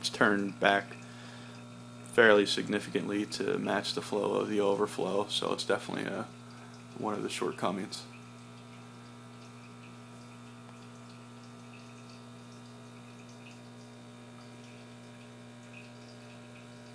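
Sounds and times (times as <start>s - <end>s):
aquarium pumps humming: 0.0s - 16.9s
water trickling and dripping: 0.0s - 16.9s.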